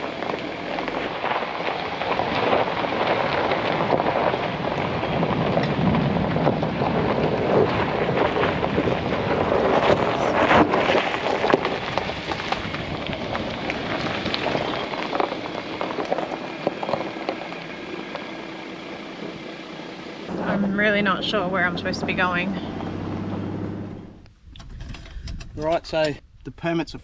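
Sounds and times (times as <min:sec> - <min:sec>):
tyres crunching on gravel: 0:00.0 - 0:24.3
vehicle rumbling: 0:00.0 - 0:27.0.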